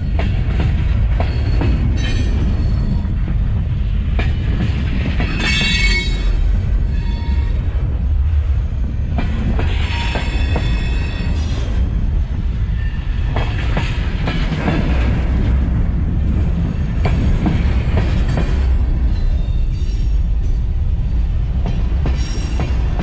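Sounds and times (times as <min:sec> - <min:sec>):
steel wheels rumbling on rail: 0:00.0 - 0:23.0.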